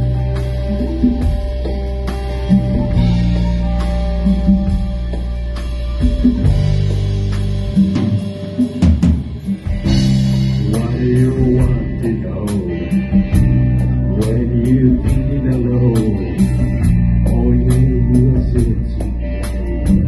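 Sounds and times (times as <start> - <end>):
bass guitar: 0.0 - 20.0
cymbal beat: 0.0 - 20.0
drum kit: 0.0 - 20.0
electric guitars: 0.0 - 20.0.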